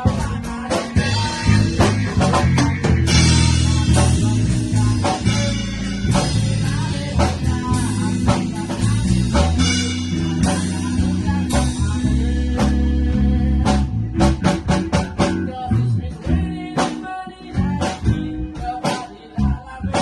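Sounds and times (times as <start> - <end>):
drum kit with cymbals: 0.0 - 15.6, 16.2 - 20.0
guitar: 0.0 - 20.0
heavy bass line: 0.0 - 20.0.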